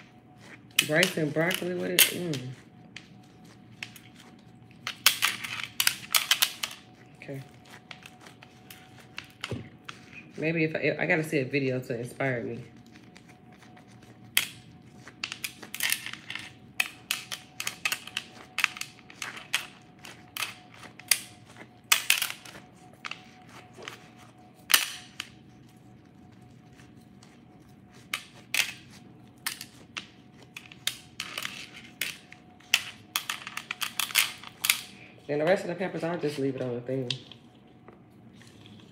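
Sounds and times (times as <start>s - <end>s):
plastic gloves crinkling: 0.0s - 10.6s, 12.0s - 38.9s.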